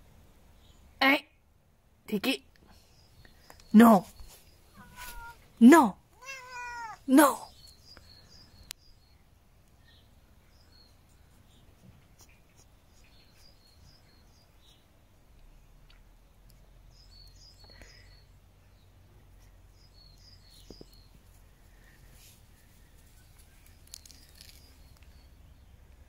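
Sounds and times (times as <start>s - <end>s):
songbird chirping: 0.0s - 26.0s.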